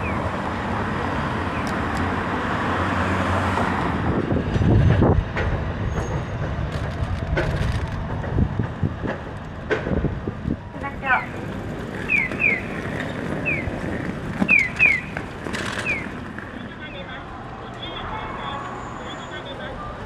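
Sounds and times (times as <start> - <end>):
street noise: 0.0 - 20.0.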